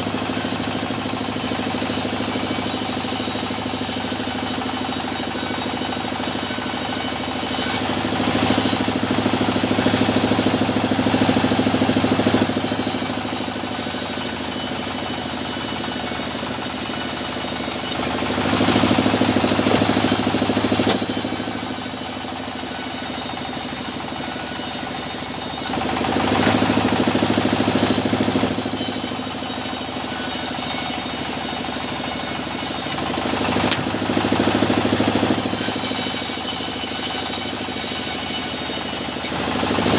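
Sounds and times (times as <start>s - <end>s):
saw cutting through logs: 0.0s - 39.9s
sawmill running: 0.0s - 39.9s.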